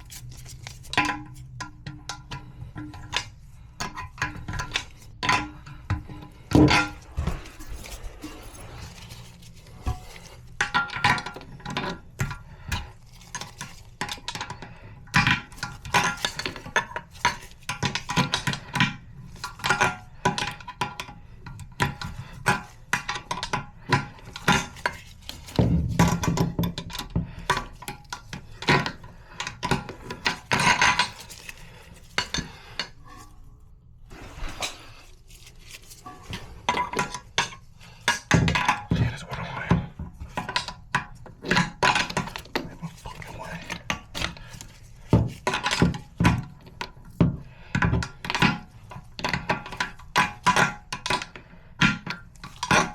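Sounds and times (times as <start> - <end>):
clinks and knocks of tools: 0.0 - 33.4, 34.3 - 52.9.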